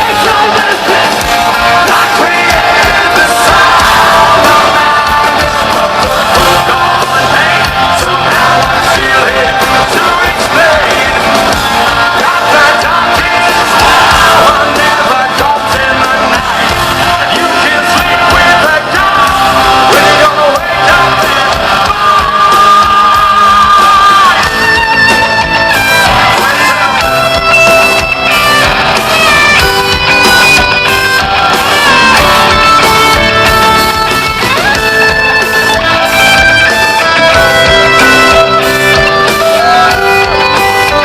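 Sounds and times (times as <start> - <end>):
crowd singing and yelling: 0.0 - 41.0
live rock band playing: 0.0 - 41.0.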